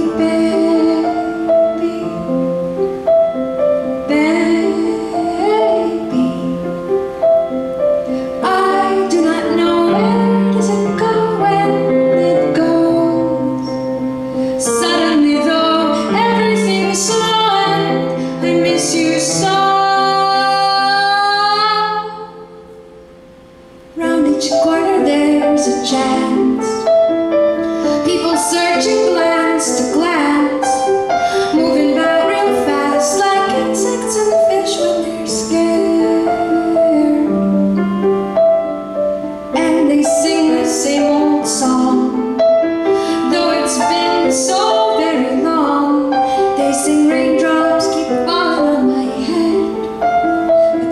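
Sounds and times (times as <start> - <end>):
woman singing: 0.0 - 22.6, 24.0 - 50.9
grand piano chords: 0.0 - 50.9.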